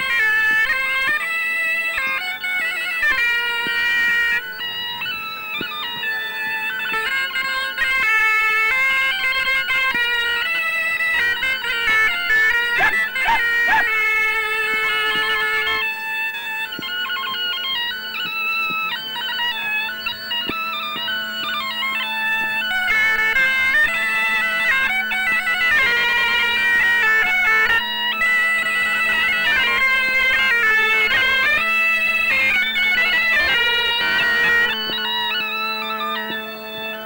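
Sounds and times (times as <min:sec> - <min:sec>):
bagpipe and bombarde playing tune: 0:00.0 - 0:37.0
bagpipe drone: 0:00.0 - 0:37.0.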